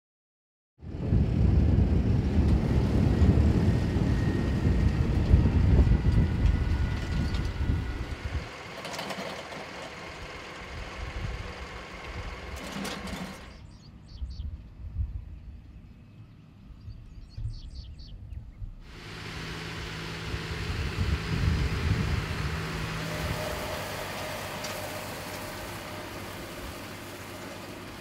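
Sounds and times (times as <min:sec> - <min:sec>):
tractor engine rumbling: 0:00.9 - 0:14.2, 0:18.8 - 0:28.0.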